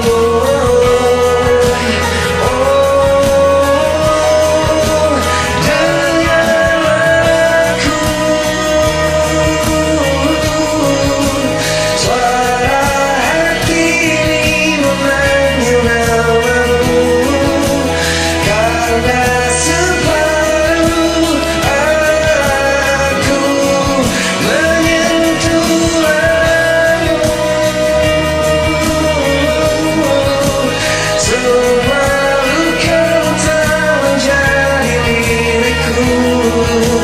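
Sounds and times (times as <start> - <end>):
man singing: 0.0 - 37.0
pop-rock backing track with guitar: 0.0 - 37.0.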